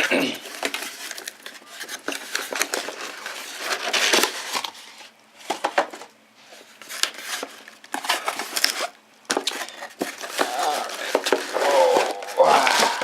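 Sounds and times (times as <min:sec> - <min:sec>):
cardboard box being unpacked: 0:00.4 - 0:13.0.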